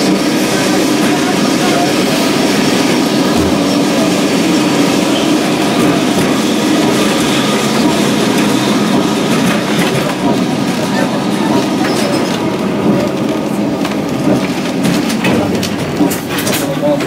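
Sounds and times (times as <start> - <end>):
tram running on rails: 0.0 - 17.0.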